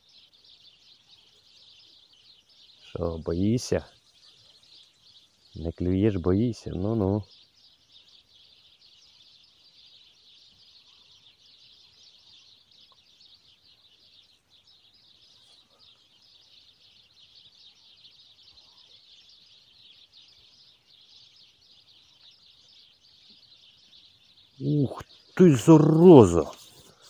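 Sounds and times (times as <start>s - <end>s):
high-pitched chirping chorus: 0.0s - 27.0s.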